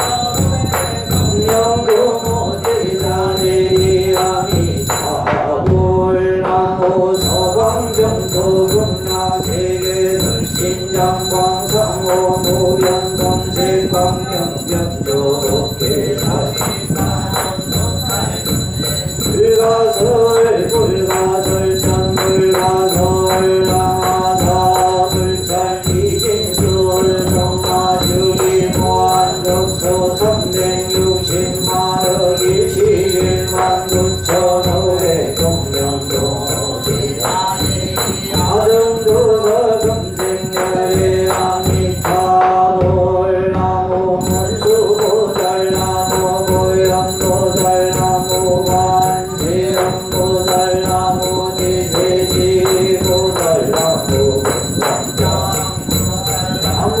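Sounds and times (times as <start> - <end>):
monk and congregation chanting: 0.0 - 57.0.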